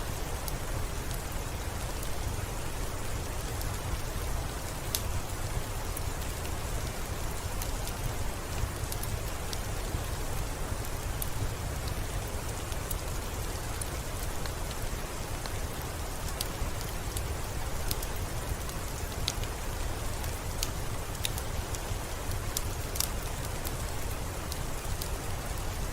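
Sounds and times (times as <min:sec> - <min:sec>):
steady soft rain: 0:00.0 - 0:25.9
wood fire crackling: 0:00.1 - 0:25.9.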